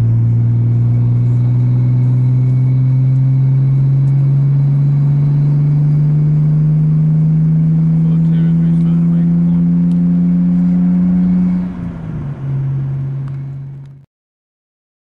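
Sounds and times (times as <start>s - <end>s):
car engine accelerating: 0.0s - 14.1s.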